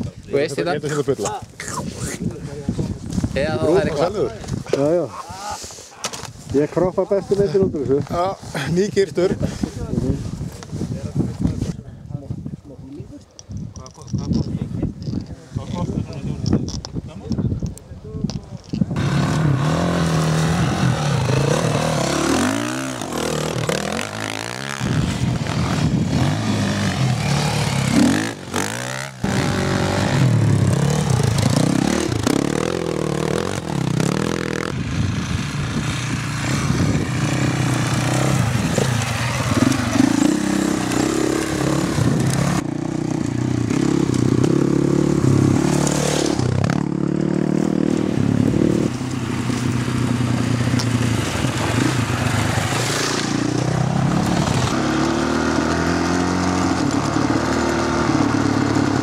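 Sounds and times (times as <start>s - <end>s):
dirt bike engines revving: 0.0s - 10.7s, 18.6s - 59.0s.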